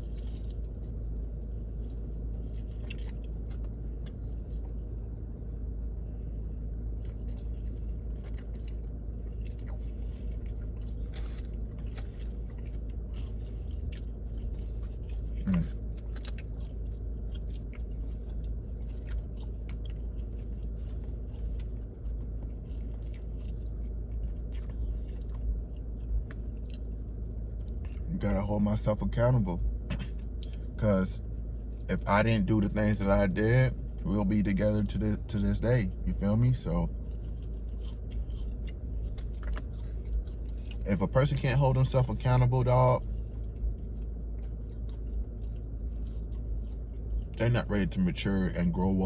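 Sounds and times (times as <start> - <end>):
man chewing food: 0.0 - 48.8
steady low hum: 0.0 - 49.0.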